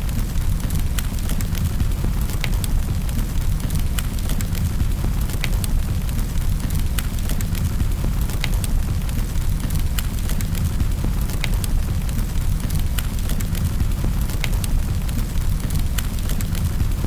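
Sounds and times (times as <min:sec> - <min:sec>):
fire crackling with pops: 0:00.0 - 0:17.0
low rumble of burning: 0:00.0 - 0:17.0.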